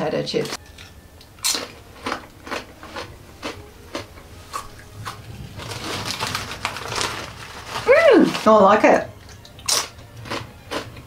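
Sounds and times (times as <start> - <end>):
crunchy chewing of potato chip: 0.8 - 8.5, 9.2 - 11.0.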